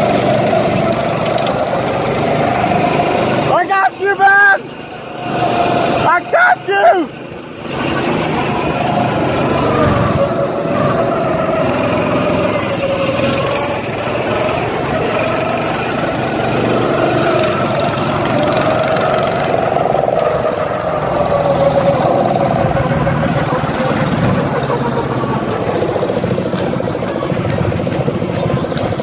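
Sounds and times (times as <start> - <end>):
go-kart engines revving: 0.0 - 29.0.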